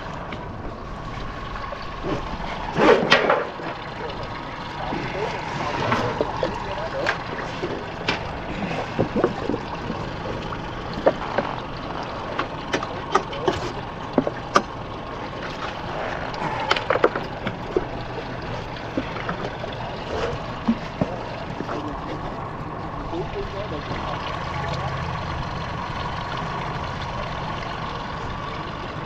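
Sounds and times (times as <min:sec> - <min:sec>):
hull slapping choppy water: 0:00.0 - 0:29.0
jet ski engine running: 0:03.4 - 0:29.0.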